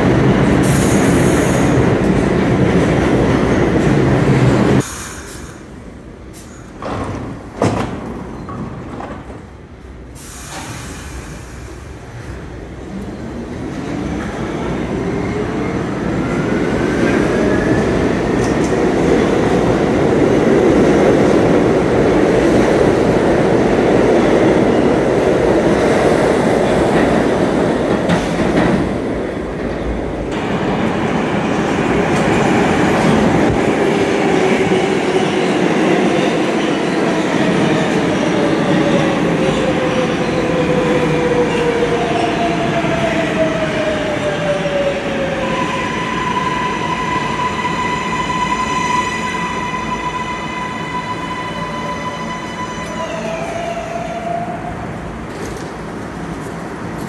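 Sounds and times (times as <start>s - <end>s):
train wheels rumbling and clacking: 0.0s - 53.5s, 54.6s - 57.0s.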